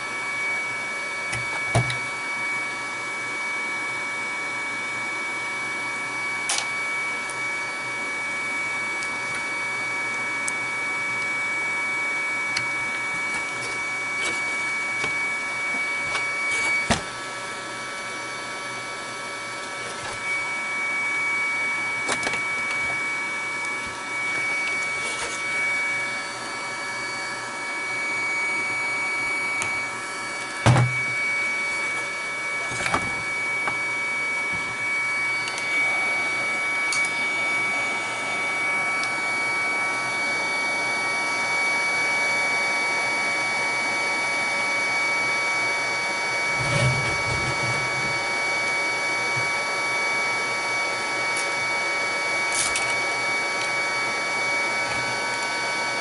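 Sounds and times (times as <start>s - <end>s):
steady electric whir: 0.0s - 56.0s.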